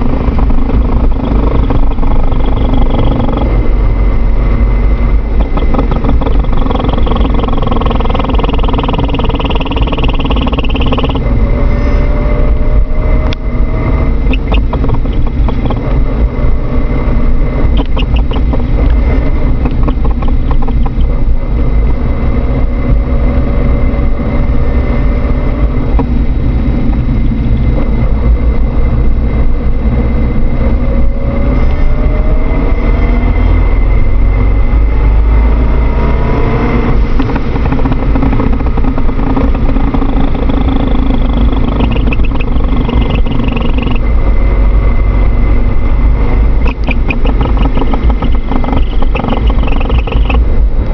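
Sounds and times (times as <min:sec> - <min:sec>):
vehicle transmission noise: 0:00.0 - 0:50.9.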